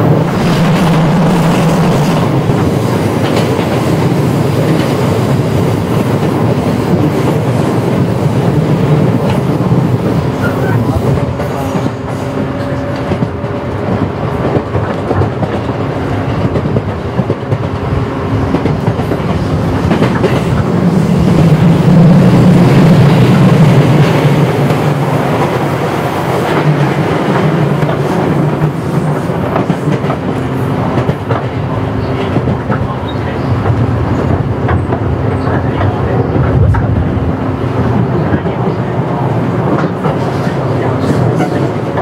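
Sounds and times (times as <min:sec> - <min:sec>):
train wheels and motors rumbling: 0:00.0 - 0:42.0.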